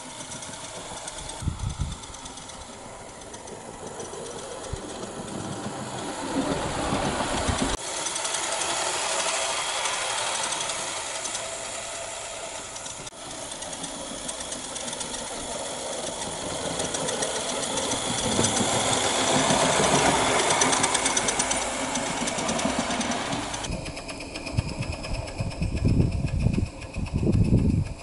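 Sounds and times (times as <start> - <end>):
steam locomotive ticking chuff: 0.0 - 28.0.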